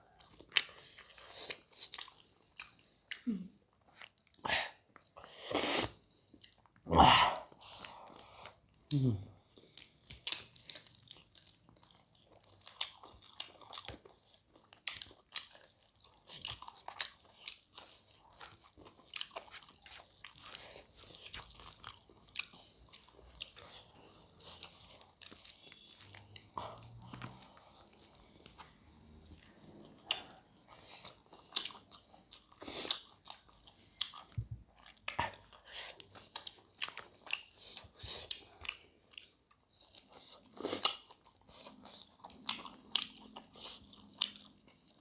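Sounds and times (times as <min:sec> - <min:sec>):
chewing and crunching: 0:00.0 - 0:06.9, 0:07.6 - 0:45.0.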